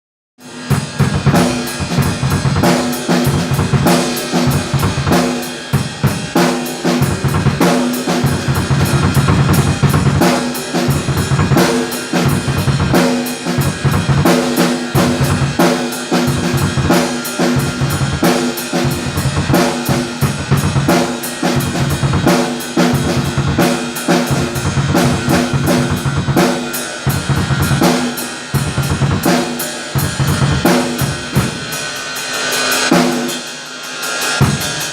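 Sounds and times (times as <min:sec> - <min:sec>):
drum kit fast beat: 0:00.4 - 0:34.9.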